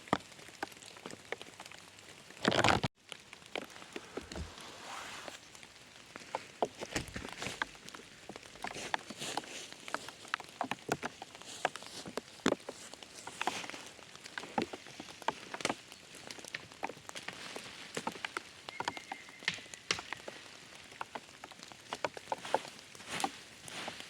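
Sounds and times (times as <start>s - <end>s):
raindrops pattering: 0.0s - 24.0s
steady rain noise: 0.0s - 24.0s.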